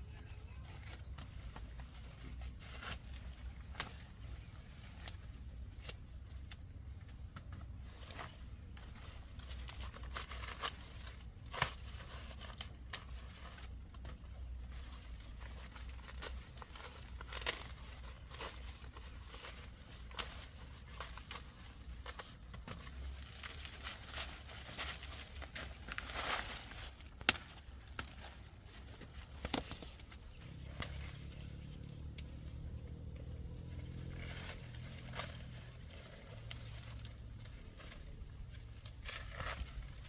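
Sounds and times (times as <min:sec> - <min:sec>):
rustling and crinkling: 0:00.0 - 0:40.0.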